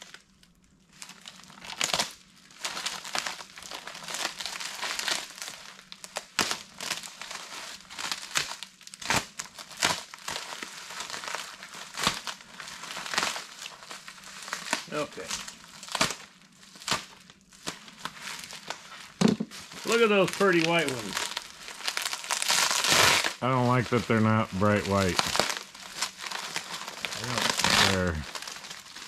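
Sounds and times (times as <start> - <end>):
plastic packaging crinkling: 0.9 - 29.0.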